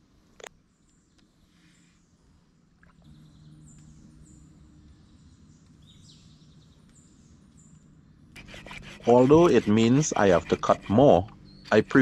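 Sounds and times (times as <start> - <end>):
low steady hum: 0.0 - 12.0
birds chirping: 0.6 - 12.0.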